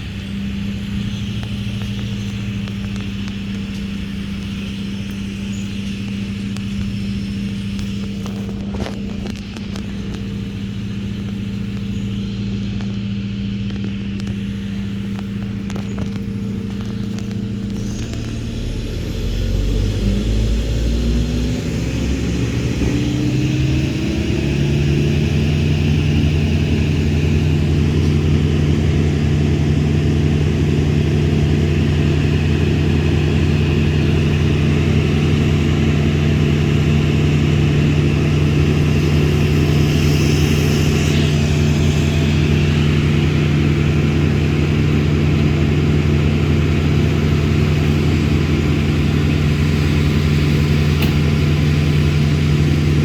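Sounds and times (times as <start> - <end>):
engine running at high speed: 0.0 - 53.0.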